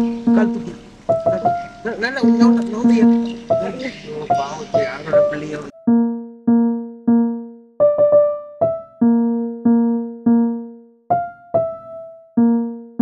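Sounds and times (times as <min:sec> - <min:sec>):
slow keyboard tune: 0:00.0 - 0:13.0.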